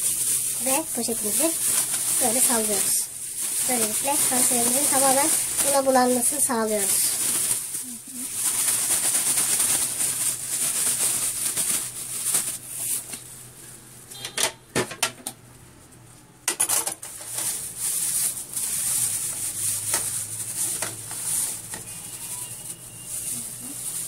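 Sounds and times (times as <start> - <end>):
plastic bag rustling: 0.0 - 14.2, 16.6 - 24.0.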